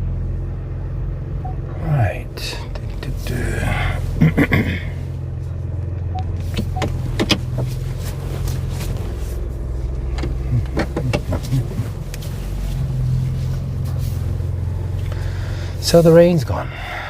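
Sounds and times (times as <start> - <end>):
engine running heard inside cabin: 0.0 - 17.0.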